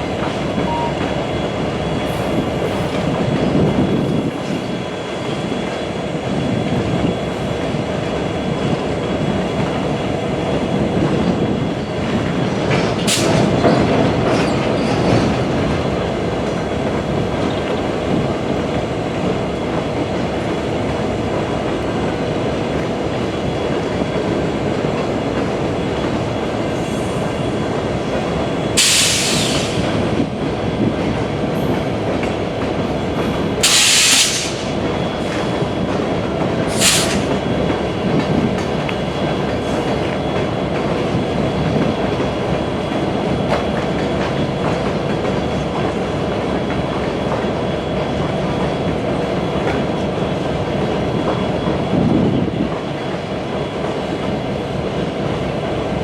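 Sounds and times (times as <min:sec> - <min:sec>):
train rumbling over rails: 0:00.0 - 0:56.0.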